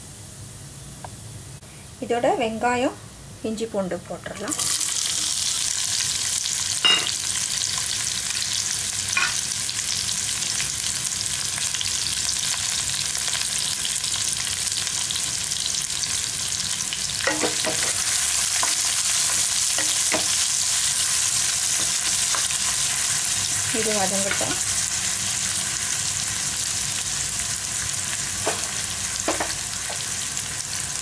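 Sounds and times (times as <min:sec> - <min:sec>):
onions sizzling in hot oil: 0:04.4 - 0:31.0.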